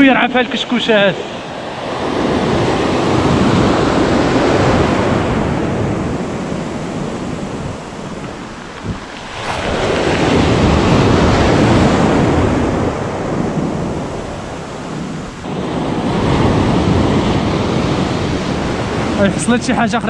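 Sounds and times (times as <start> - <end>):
sea surf breaking: 0.0 - 20.0
wind buffeting microphone: 0.0 - 20.0.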